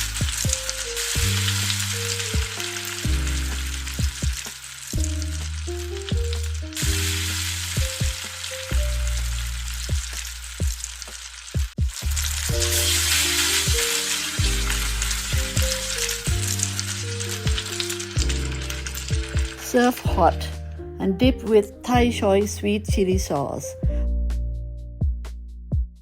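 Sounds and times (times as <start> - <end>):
music with plucked notes and bass: 0.0 - 11.2, 11.9 - 26.0
okra deep-frying in oil: 0.0 - 20.9.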